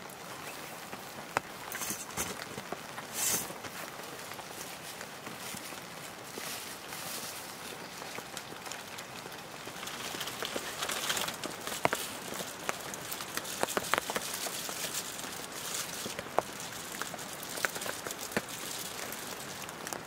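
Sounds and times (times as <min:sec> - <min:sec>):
wood fire crackling and popping: 0:00.0 - 0:20.0
plastic bag crinkling: 0:01.6 - 0:20.0.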